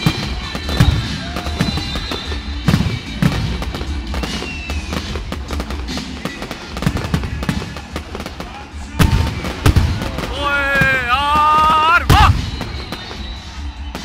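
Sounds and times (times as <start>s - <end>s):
firework crackling: 0.0s - 14.0s
firework shells bursting with bangs: 0.0s - 14.0s.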